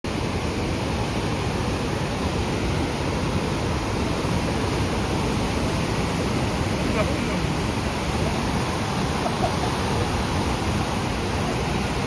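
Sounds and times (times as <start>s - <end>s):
floodwater rushing: 0.1s - 12.0s.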